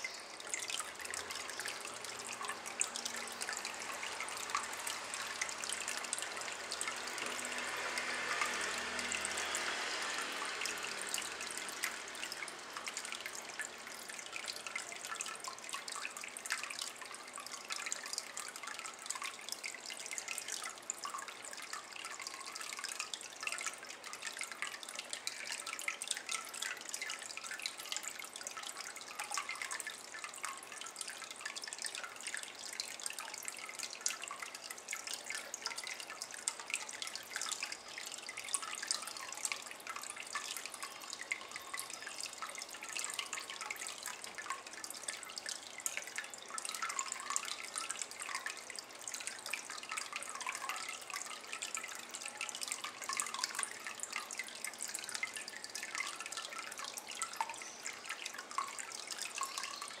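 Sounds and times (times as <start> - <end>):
water dripping into ceramic bowl: 0.0 - 60.0.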